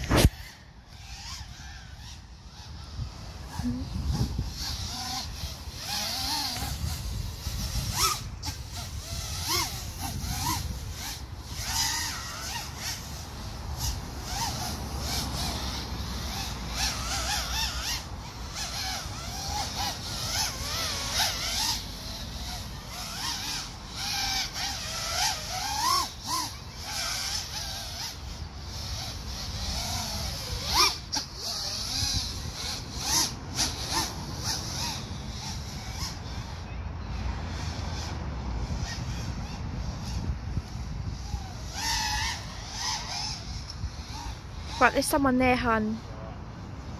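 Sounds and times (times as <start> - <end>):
wind rumble on microphone: 0.0 - 20.9, 27.2 - 44.9
drone motors whining: 0.0 - 46.9.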